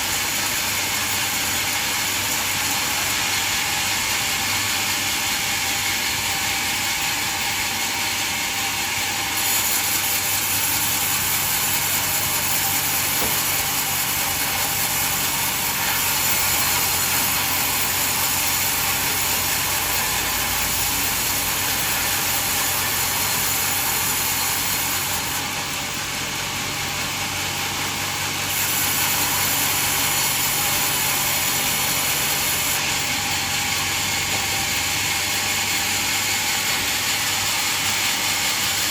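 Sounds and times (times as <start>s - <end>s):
band sawmill whining: 0.0s - 38.9s.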